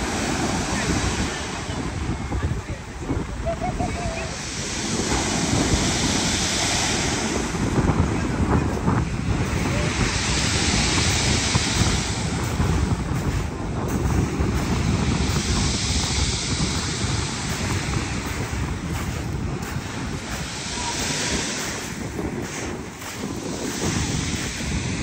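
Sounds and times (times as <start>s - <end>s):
sea waves breaking ashore: 0.0s - 25.0s
wind buffeting microphone: 0.0s - 25.0s.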